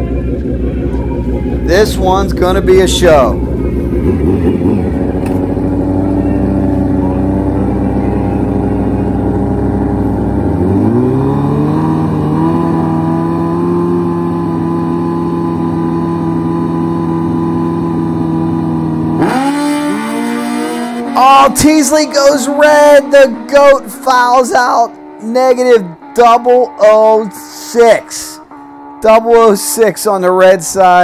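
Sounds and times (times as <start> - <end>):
motorcycle engines idling and revving: 0.0 - 31.0.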